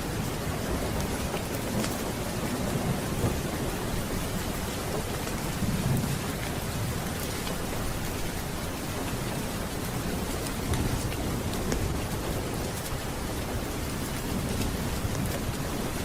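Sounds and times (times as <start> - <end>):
low thunder rumbling: 0.0 - 16.0
steady rain: 0.0 - 16.0.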